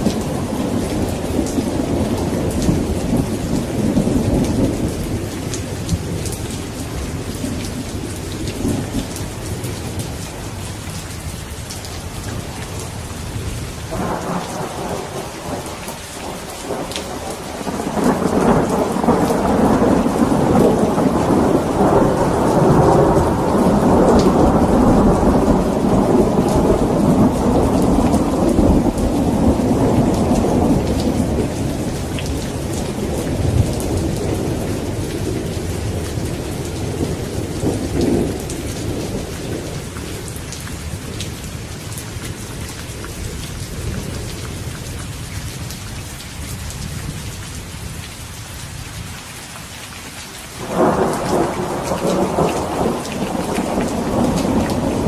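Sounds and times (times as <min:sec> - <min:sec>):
rolling thunder rumble: 0:00.0 - 0:10.6, 0:11.8 - 0:41.7, 0:50.6 - 0:55.0
steady rain: 0:00.0 - 0:55.0.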